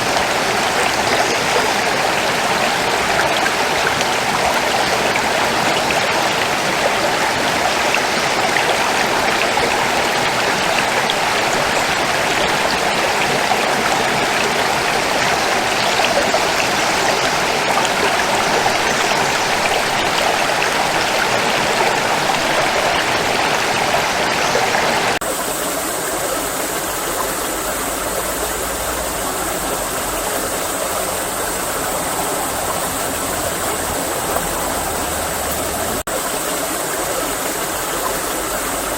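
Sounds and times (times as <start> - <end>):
water rushing over stones: 0.0 - 38.9.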